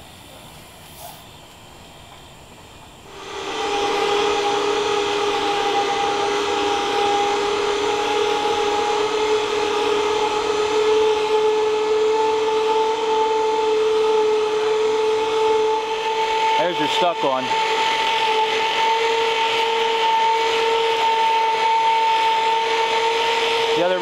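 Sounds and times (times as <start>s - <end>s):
electric winch whining: 3.0s - 24.0s.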